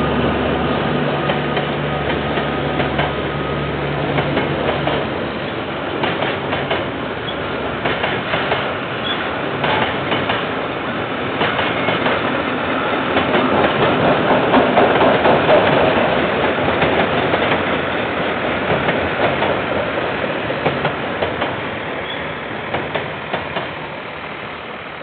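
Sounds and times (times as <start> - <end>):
train wheels clacking: 1.2 - 3.3, 4.0 - 23.8.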